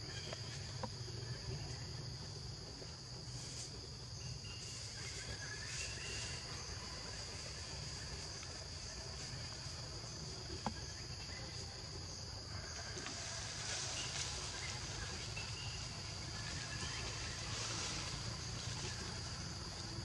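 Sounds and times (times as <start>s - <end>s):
insects chirring: 0.0s - 20.0s
low outdoor rumble: 0.0s - 20.0s.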